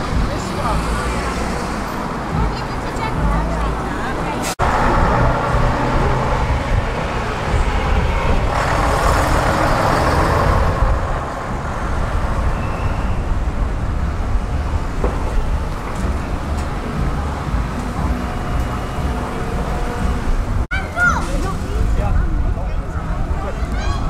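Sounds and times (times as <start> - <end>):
bus engine driving past: 0.0 - 20.7
road traffic: 0.0 - 24.0
rush of noise: 3.2 - 24.0.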